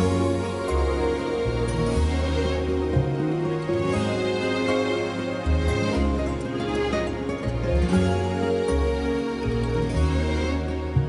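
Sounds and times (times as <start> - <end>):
instrumental music with bass line: 0.0 - 11.0.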